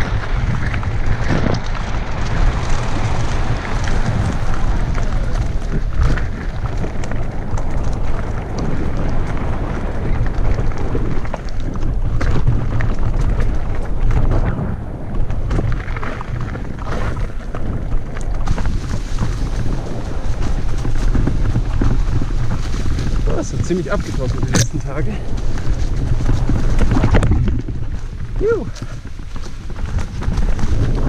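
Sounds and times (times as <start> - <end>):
bike knocking and rattling: 0.0 - 31.0
wind rumble on microphone: 0.0 - 31.0.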